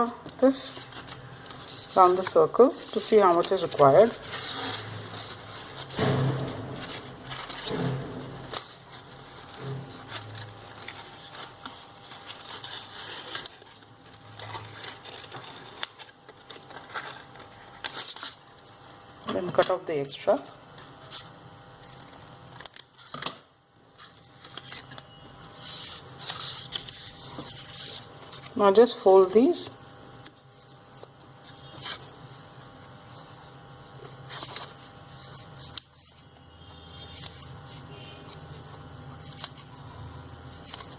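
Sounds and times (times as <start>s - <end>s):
card paper rustling and crinkling: 0.0s - 19.9s, 20.8s - 29.4s, 30.5s - 40.9s.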